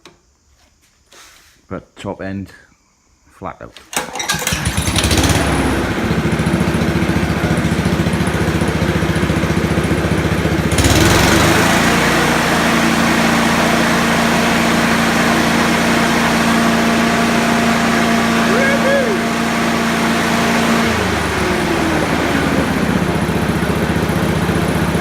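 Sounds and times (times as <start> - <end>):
lawnmower engine running: 4.0 - 25.0.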